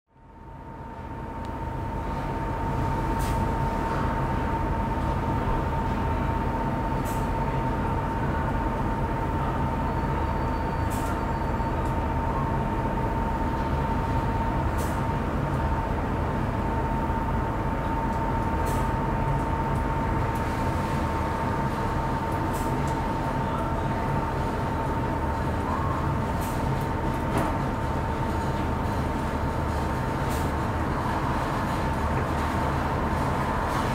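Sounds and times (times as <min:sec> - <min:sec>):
train car rumble: 0:00.4 - 0:33.9.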